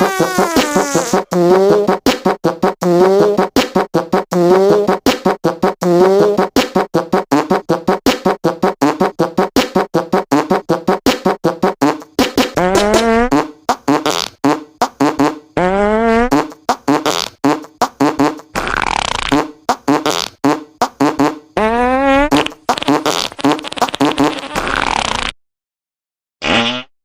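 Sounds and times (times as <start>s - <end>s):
fart sounds: 0.0s - 25.4s, 26.4s - 26.9s.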